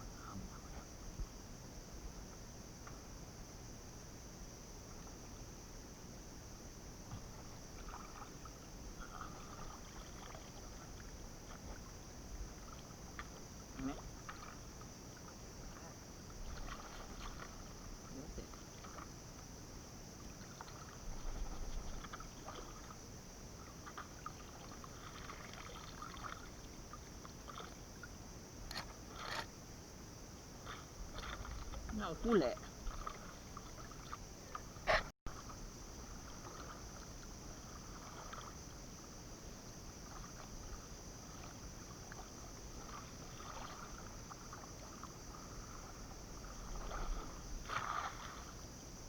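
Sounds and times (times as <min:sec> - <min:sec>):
river water sloshing and splashing: 0:06.9 - 0:49.0.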